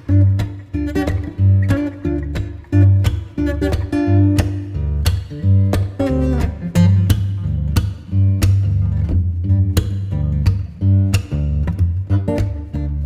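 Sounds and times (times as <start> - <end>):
acoustic guitar strumming: 0.0 - 13.0
bass line: 0.0 - 13.0.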